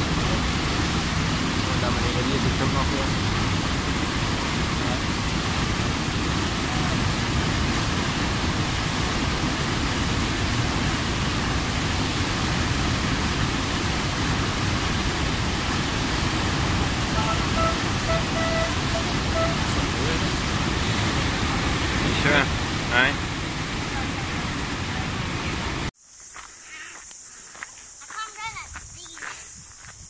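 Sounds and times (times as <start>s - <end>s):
rushing white water rapids: 0.0s - 25.9s.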